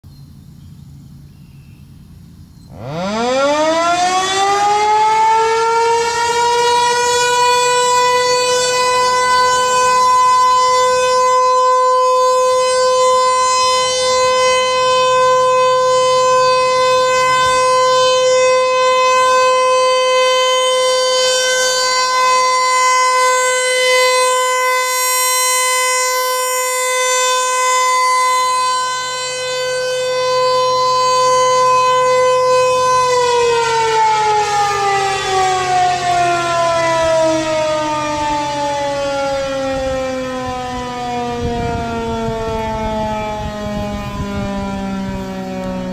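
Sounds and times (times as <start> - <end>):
rotating tornado siren: 1.8 - 45.9.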